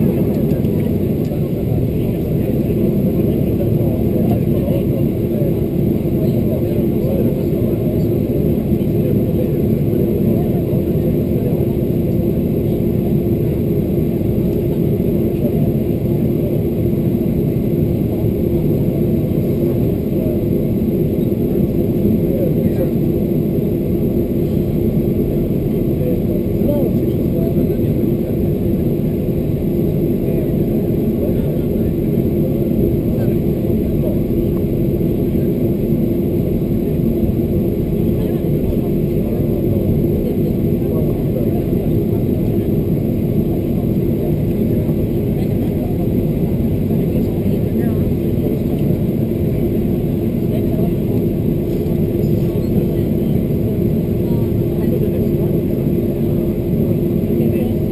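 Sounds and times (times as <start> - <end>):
aircraft engines rumbling: 0.0 - 57.9
constant cabin hum: 0.0 - 57.9.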